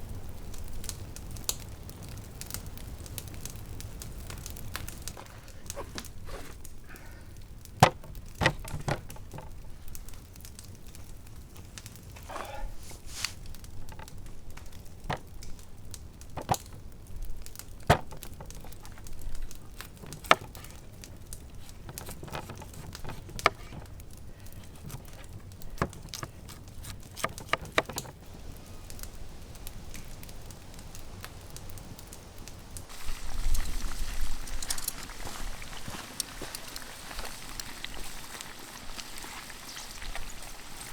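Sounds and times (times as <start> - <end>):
burning wood popping: 0.0 - 40.9
campfire crackling: 0.0 - 40.9.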